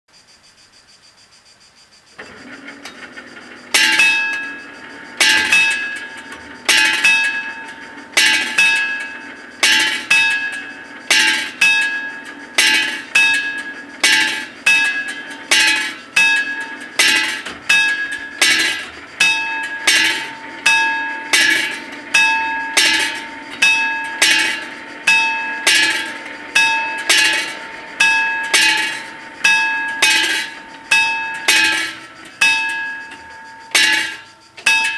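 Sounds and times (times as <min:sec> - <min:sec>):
level crossing warning bells: 0:02.2 - 0:34.9.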